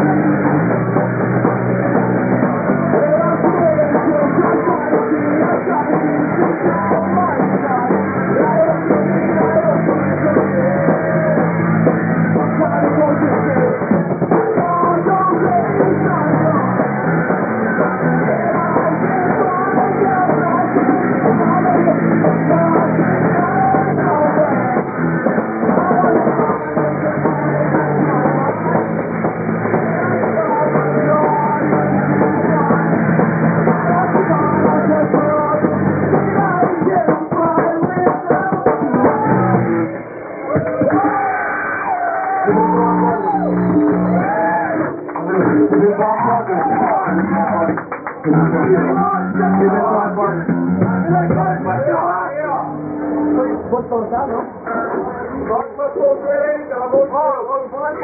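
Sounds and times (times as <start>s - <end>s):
muffled live rock band: 0.0s - 58.0s
man singing: 2.6s - 17.0s, 17.8s - 39.9s, 42.0s - 52.8s, 55.4s - 58.0s.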